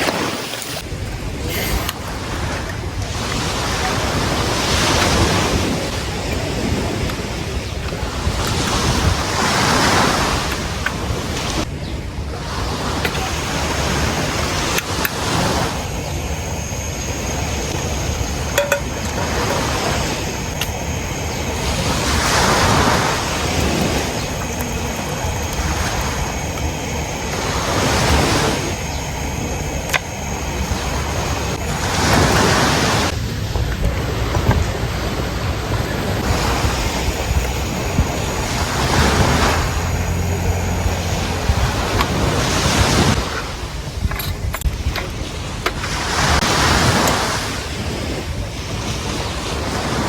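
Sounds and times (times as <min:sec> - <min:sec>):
ocean surf washing on shore: 0:00.0 - 0:50.0
wind rumbling on microphone: 0:00.0 - 0:50.0.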